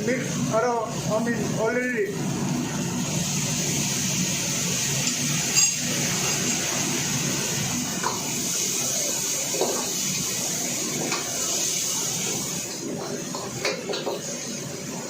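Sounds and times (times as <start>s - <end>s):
food sizzling in a pan: 2.6s - 15.0s.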